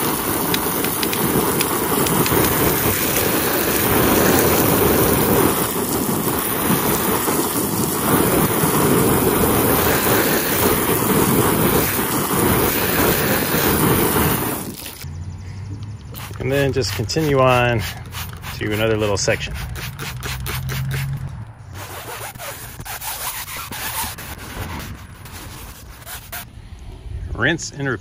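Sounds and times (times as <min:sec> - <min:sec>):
hose spray splattering on fabric: 0:00.0 - 0:15.0, 0:16.2 - 0:21.2, 0:21.8 - 0:26.4.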